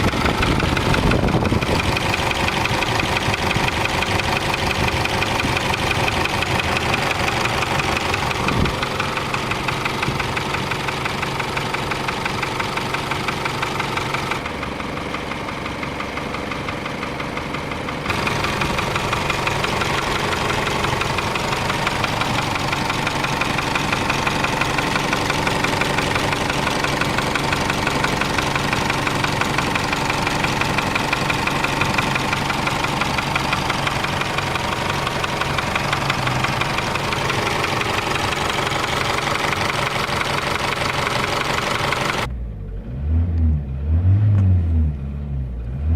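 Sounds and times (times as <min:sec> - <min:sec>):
fast even engine ticking: 0:00.0 - 0:42.3
pickup engine idling: 0:00.0 - 0:42.9.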